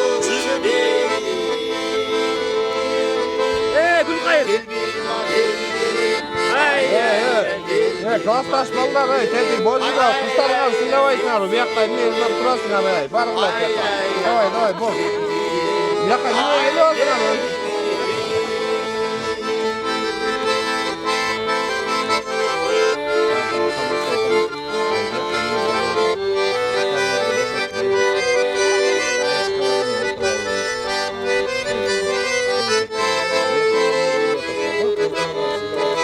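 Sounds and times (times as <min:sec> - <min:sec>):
accordion folk tune: 0:00.0 - 0:36.0.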